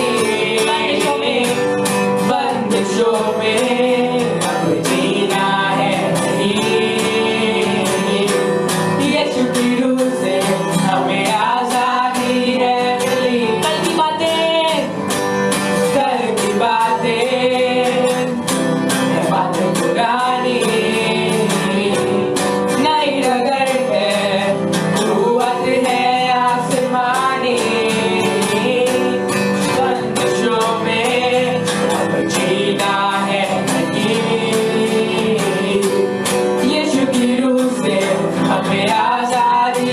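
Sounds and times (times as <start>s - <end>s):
person singing: 0.0s - 39.9s
strummed guitar and band: 0.0s - 39.9s.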